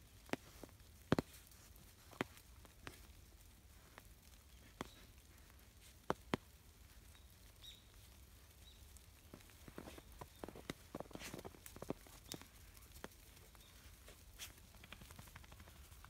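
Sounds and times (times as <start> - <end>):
paws crunching in snow: 0.0 - 16.0.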